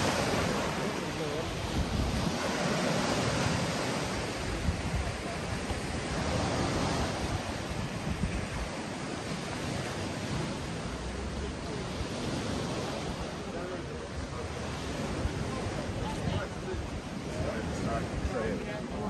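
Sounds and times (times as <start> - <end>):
sea surf: 0.0 - 19.0
wind: 0.0 - 19.0.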